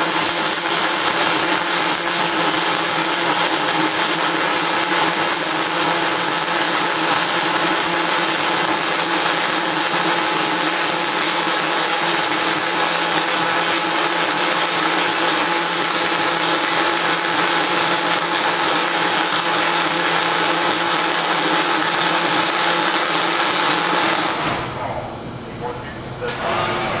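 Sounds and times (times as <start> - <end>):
welding arc hissing and crackling: 0.0 - 24.7.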